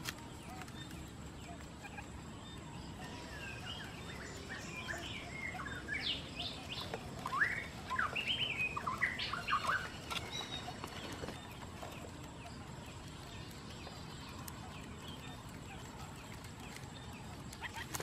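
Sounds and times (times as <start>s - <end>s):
quail chirping: 0.0s - 18.0s.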